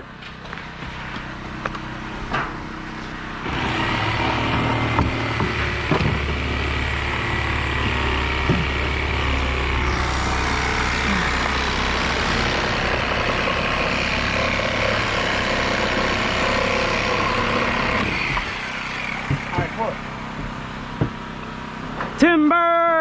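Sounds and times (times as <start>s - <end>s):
vehicle engine running: 0.0s - 22.2s.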